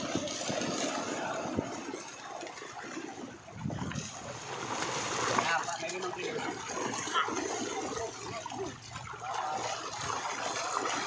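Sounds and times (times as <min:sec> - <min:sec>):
fish thrashing and splashing water: 0:00.0 - 0:11.0.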